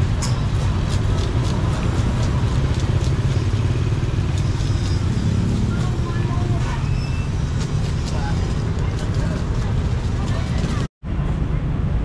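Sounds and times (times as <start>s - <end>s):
motorbike traffic rumble: 0.0s - 12.0s.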